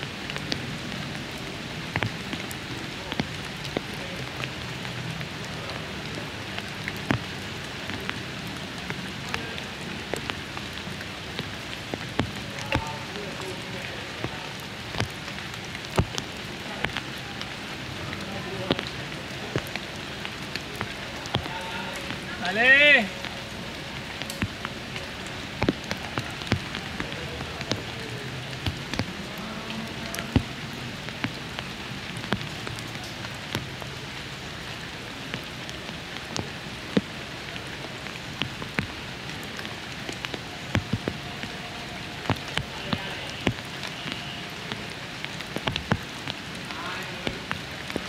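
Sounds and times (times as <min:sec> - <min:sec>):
raindrops ticking close by: 0:00.0 - 0:48.0
steady rain falling: 0:00.0 - 0:48.0.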